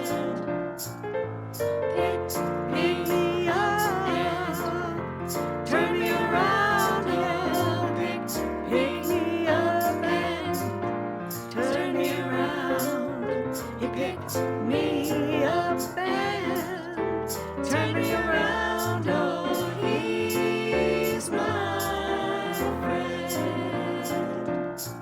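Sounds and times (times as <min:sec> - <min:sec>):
person singing gospel song: 0:00.0 - 0:00.6, 0:02.0 - 0:25.0.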